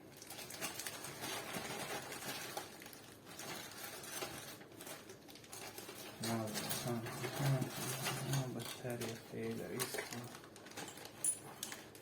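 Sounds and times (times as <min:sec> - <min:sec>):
objects clicking and knocking: 0:00.0 - 0:12.0.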